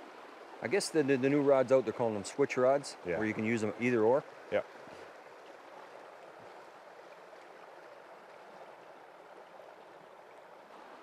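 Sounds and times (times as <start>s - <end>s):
river flowing over rocks: 0.0s - 11.0s.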